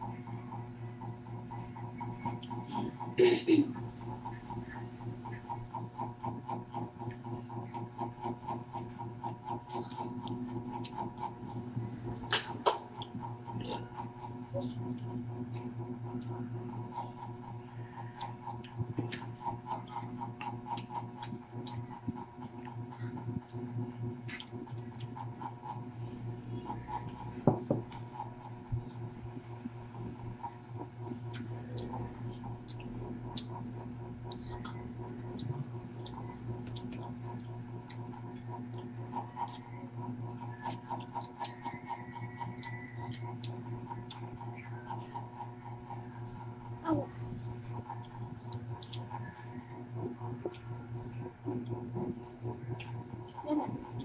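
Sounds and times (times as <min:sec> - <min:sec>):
chewing fried chicken: 0:00.0 - 0:54.0
steady hum: 0:00.0 - 0:54.0.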